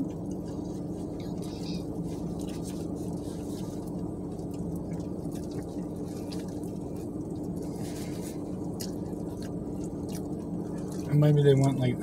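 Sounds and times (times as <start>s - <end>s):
people chewing: 0.0s - 11.8s
low hum in car cabin: 0.0s - 12.0s.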